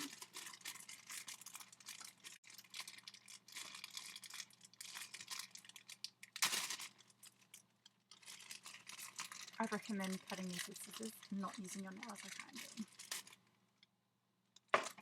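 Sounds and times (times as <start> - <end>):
plastic tearing: 0.0 - 13.5
plastic packaging crinkling: 0.0 - 13.8.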